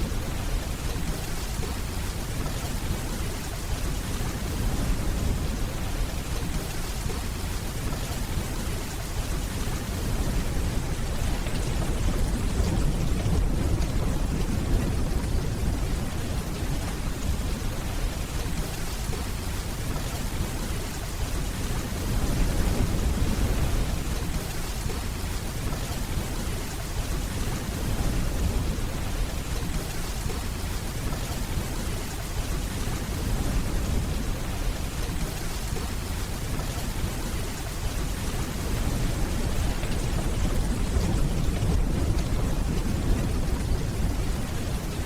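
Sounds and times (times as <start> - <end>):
distant rolling thunder: 0.0 - 45.0
steady rainfall: 0.0 - 45.0.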